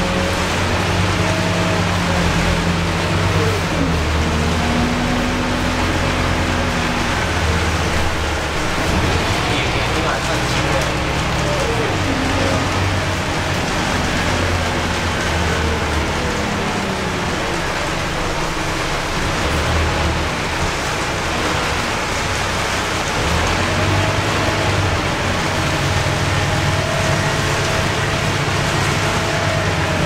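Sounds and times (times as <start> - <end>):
diesel engine drone: 0.0 - 30.0
heavy rain on bus roof and windows: 0.0 - 30.0.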